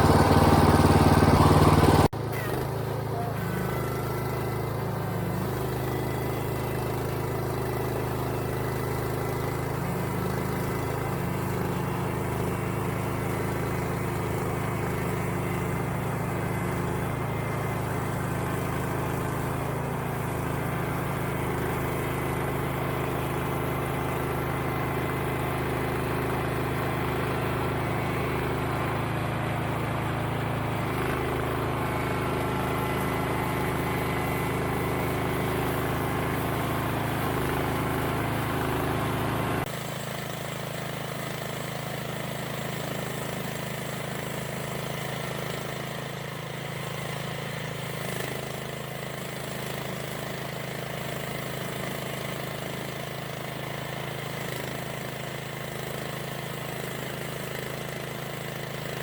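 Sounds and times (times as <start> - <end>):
motor engine running: 0.0 - 59.0.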